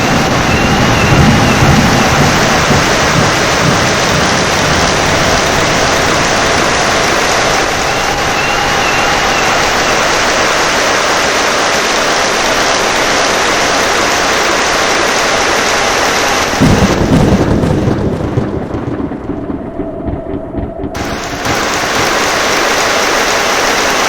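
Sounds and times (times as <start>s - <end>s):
heavy rain hissing: 0.0s - 19.2s, 21.0s - 24.0s
thunder clap rumbling: 0.0s - 24.0s.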